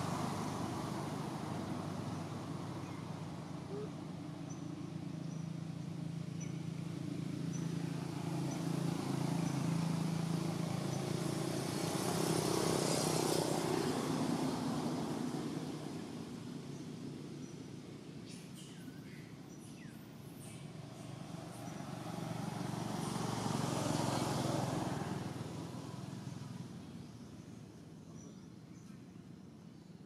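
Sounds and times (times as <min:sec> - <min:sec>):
vehicle engine passing by: 0:00.0 - 0:17.8, 0:20.1 - 0:27.8.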